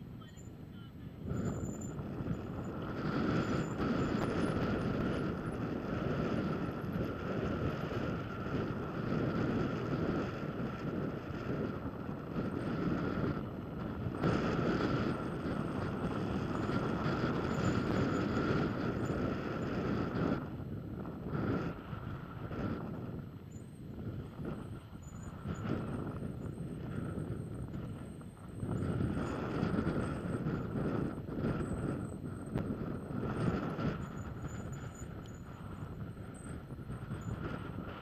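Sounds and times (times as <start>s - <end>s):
steady high hum: 0.0s - 38.0s
wind rushing over microphone: 0.0s - 38.0s
bike tyres rumbling on rock: 1.4s - 38.0s.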